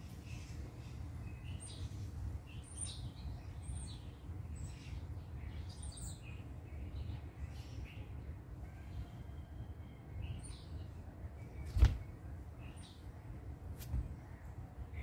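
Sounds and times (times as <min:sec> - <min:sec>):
small birds chirping: 0:00.0 - 0:09.2, 0:09.9 - 0:15.0.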